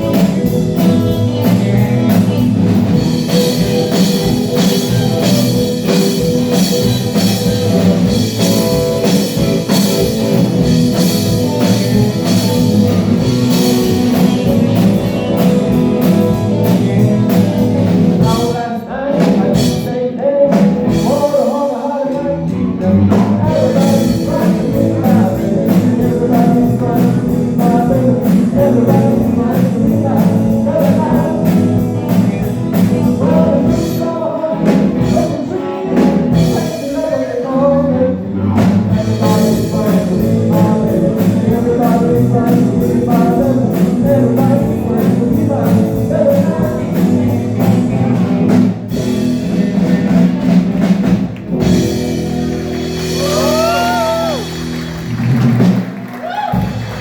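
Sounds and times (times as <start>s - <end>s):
person singing: 0.0s - 54.7s
live rock band playing: 0.0s - 57.0s.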